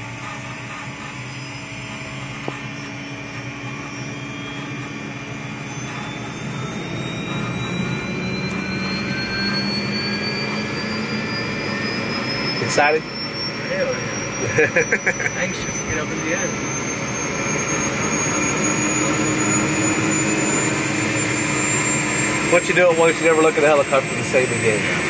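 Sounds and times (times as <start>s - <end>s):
helicopter turbine whine: 0.0s - 25.0s.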